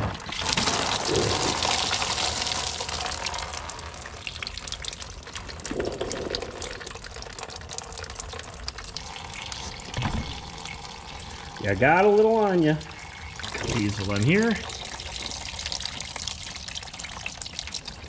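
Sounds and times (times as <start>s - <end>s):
coolant gushing from a hose: 0.0s - 18.0s.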